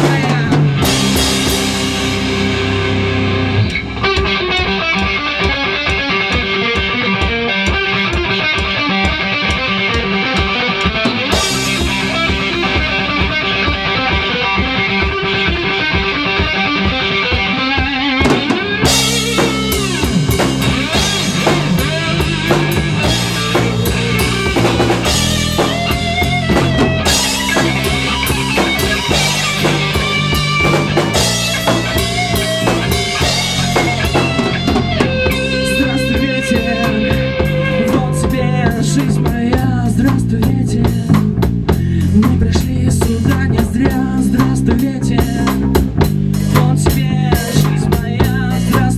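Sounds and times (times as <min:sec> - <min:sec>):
drum kit and cymbals: 0:00.0 - 0:48.9
instrumental rock music: 0:00.0 - 0:48.9.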